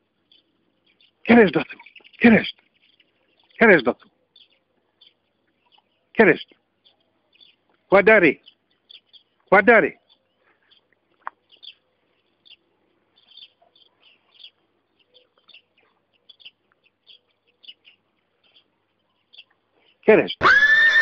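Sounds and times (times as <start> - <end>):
faint small bird chirps: 0.2 - 20.4.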